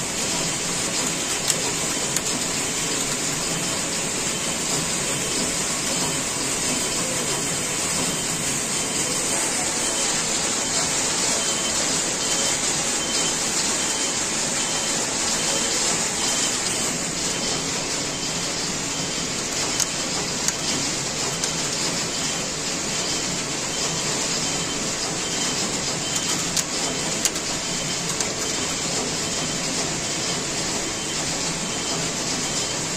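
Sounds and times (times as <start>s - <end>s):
knitting machine whirring and rattling: 0.0s - 32.9s.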